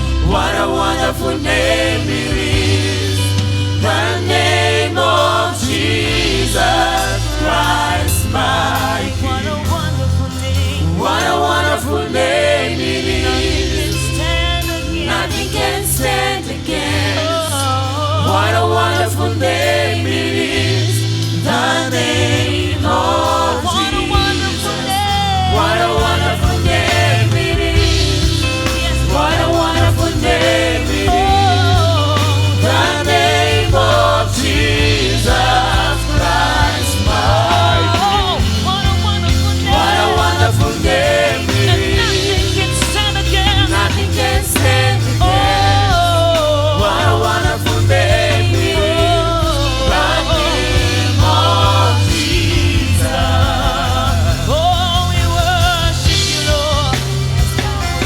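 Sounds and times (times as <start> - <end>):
band with steady bass line: 0.0 - 58.0
singers holding wavering vocals: 0.0 - 58.0.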